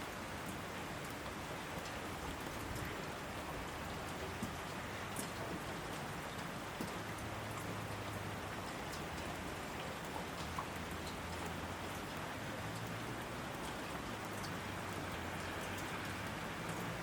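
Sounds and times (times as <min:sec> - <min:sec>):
heavy rain pouring: 0:00.0 - 0:17.0
raindrop ticks: 0:00.4 - 0:17.0.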